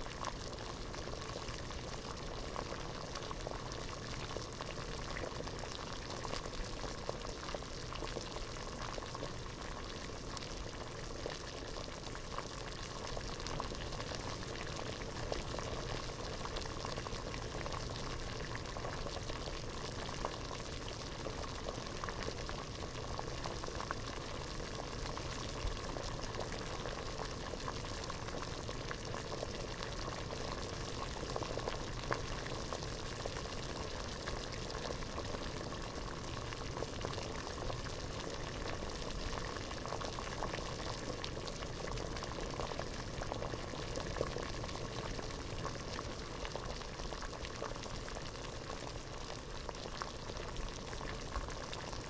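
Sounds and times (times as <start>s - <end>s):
water boiling in a pot: 0.0s - 52.0s.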